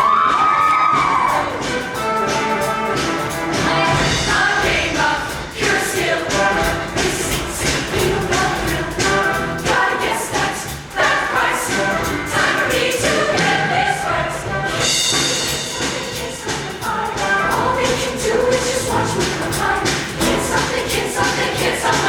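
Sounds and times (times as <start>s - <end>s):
loud backing band: 0.0s - 22.0s
choir singing in harmony: 0.8s - 22.0s.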